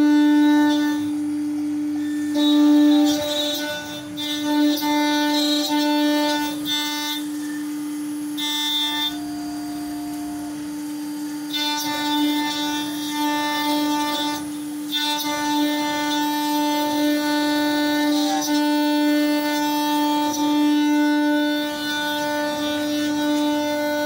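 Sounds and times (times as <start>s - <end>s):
milling machine cutting metal: 0.0s - 24.0s.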